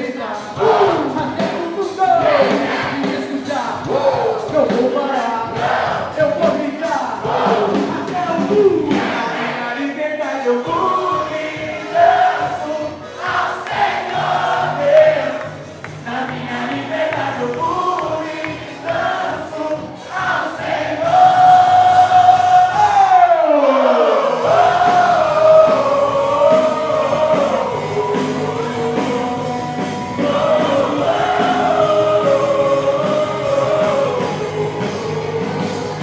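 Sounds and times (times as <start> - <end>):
band accompaniment: 0.0 - 36.0
choir singing worship song: 0.0 - 36.0.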